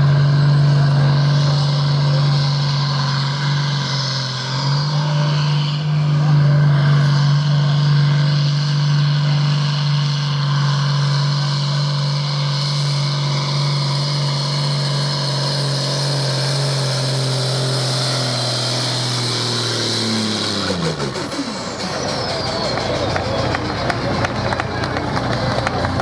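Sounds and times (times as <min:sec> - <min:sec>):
tractor diesel engine running hard: 0:00.0 - 0:26.0.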